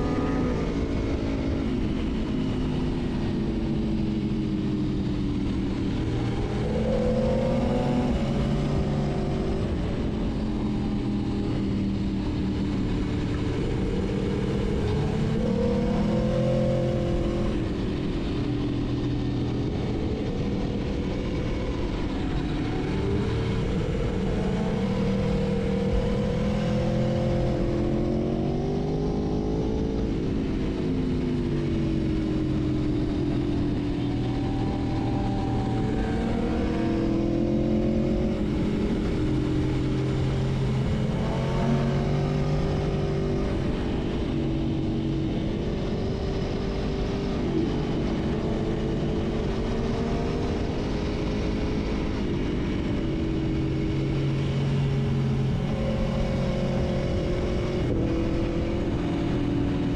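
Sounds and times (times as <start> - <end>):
motorcycle engine running at speed: 0.0 - 59.9
wind noise: 0.0 - 59.9.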